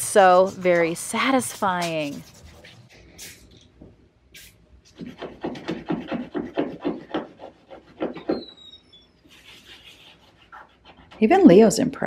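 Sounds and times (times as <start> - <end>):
hand scrubbing a wall: 0.0 - 3.5, 4.4 - 8.6, 9.2 - 11.6.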